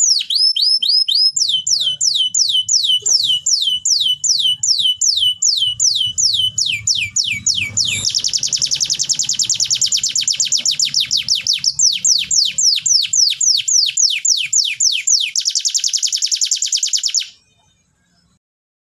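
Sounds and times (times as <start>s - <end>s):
canary singing: 0.0s - 18.4s.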